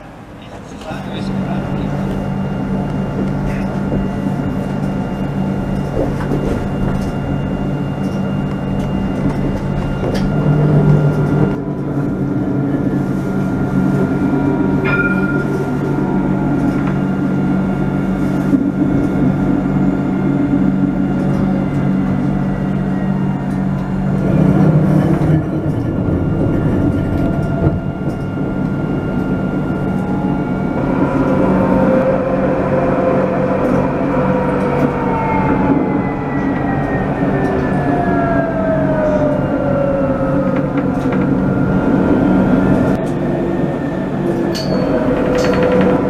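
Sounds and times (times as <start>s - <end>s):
tram rumble and hum: 0.0s - 46.0s.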